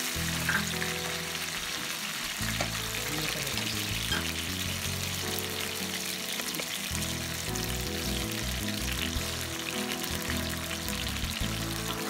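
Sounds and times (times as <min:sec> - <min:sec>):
background music: 0:00.0 - 0:12.0
food sizzling in hot oil: 0:00.0 - 0:12.0.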